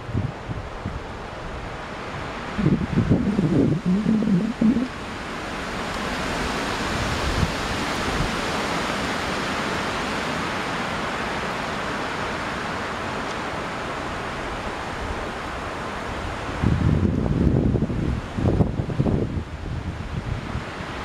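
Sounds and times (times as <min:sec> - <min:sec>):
wind rushing through trees: 0:00.0 - 0:21.0.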